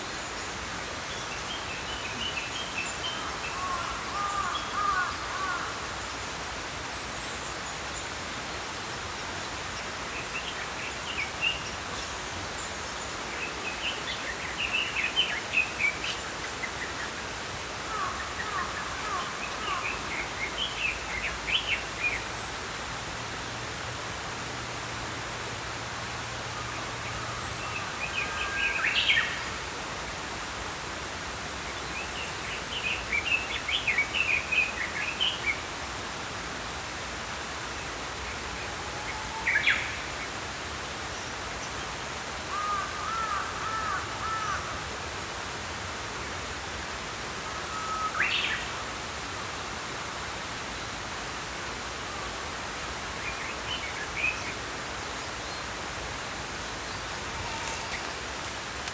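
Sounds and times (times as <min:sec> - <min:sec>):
stream rushing: 0:00.0 - 0:58.9.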